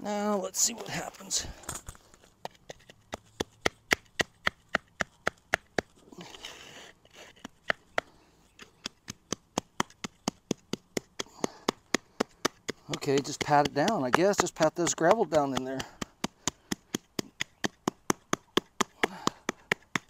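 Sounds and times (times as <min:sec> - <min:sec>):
wooden float tapping concrete: 0:01.6 - 0:06.0, 0:07.1 - 0:20.0.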